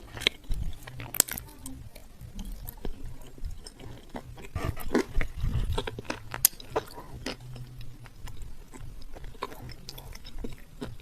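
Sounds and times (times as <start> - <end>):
close chewing crunches: 0.0 - 11.0.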